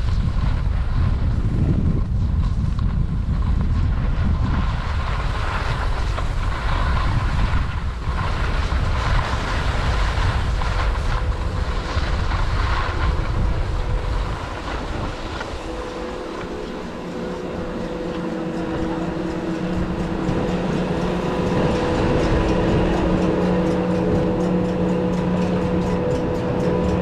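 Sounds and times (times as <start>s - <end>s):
skis scraping over snow: 0.0s - 27.0s
steady machine hum: 0.0s - 27.0s
wind buffeting microphone: 0.0s - 27.0s.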